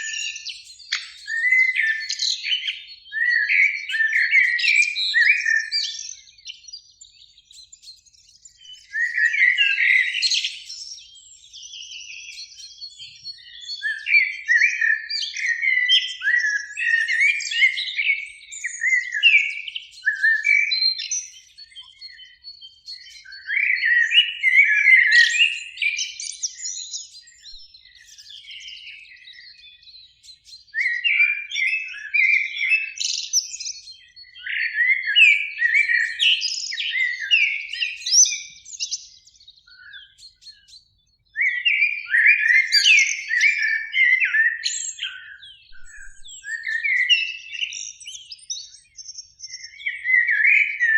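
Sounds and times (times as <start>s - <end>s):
blackbird singing: 0.0s - 50.9s.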